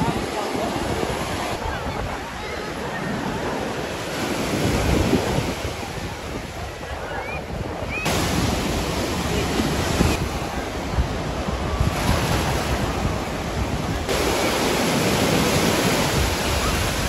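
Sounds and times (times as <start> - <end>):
ocean surf breaking: 0.0 - 17.0
wind on microphone: 0.0 - 17.0.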